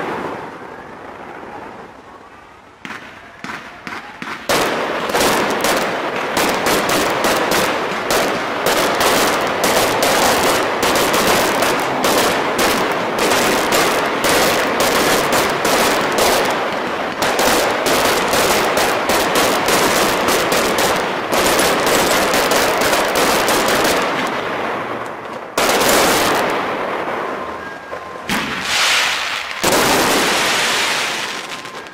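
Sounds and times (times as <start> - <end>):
fireworks bangs: 0.0 - 31.9
heavy firework bursts: 2.8 - 31.9.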